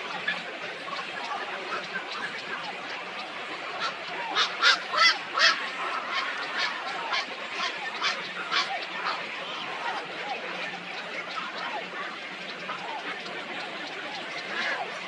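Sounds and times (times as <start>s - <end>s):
small birds chorus: 0.0s - 15.0s
waterfowl calling: 0.0s - 15.0s.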